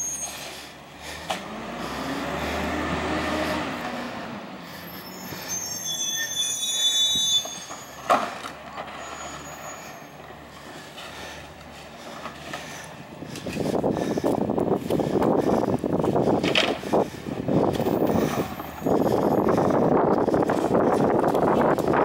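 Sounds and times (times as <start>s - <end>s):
brakes squealing: 0.0s - 22.0s.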